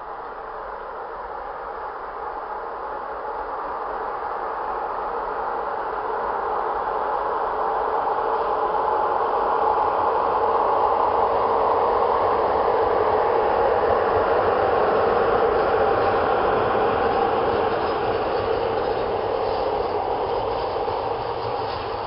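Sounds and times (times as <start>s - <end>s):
train wheels rumbling on rails: 1.3s - 22.0s.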